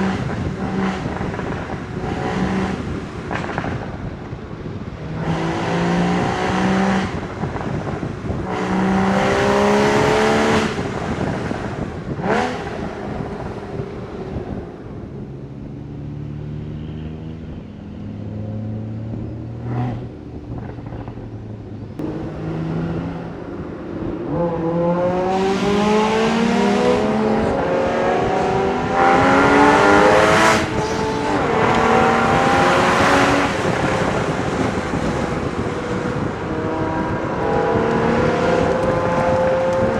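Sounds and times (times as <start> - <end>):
sports car engine accelerating: 0.0 - 39.9.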